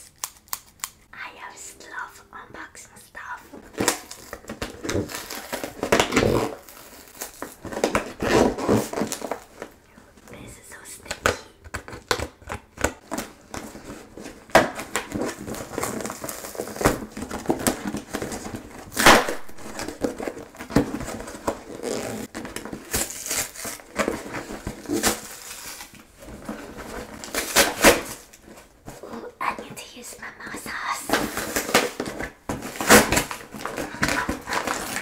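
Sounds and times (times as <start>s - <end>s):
packaging crinkling and rustling: 3.5s - 10.5s, 11.2s - 29.4s, 31.1s - 35.0s
cardboard package being opened: 3.6s - 9.8s, 11.3s - 29.4s, 31.1s - 35.0s.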